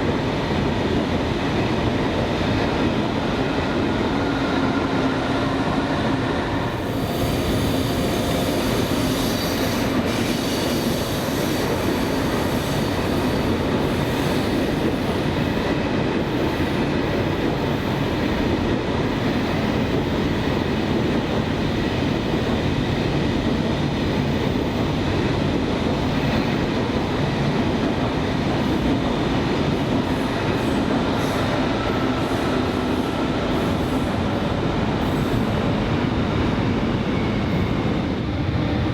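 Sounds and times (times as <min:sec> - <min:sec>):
train rumbling along tracks: 0:00.0 - 0:38.9.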